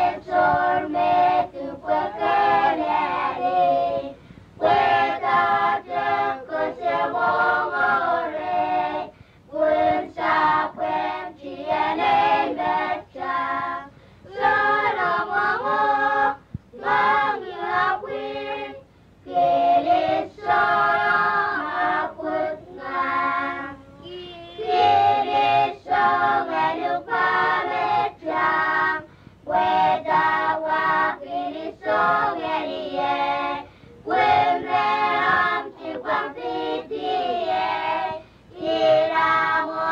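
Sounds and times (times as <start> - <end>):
group singing unaccompanied: 0.0 - 39.9.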